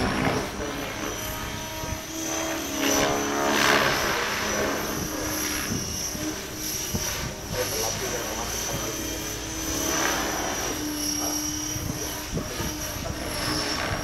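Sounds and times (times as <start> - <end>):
model helicopter whine: 0.0 - 14.0.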